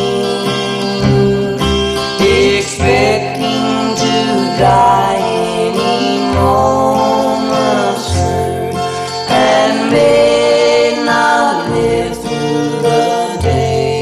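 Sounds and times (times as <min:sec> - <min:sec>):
acoustic guitar accompaniment: 0:00.0 - 0:14.0
sustained melody line: 0:00.0 - 0:14.0.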